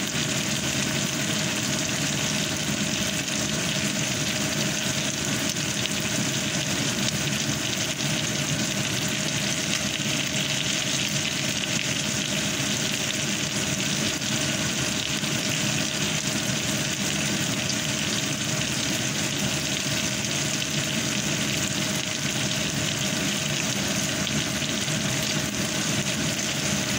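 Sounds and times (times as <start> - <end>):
meat sizzling in a frying pan: 0.0 - 26.9.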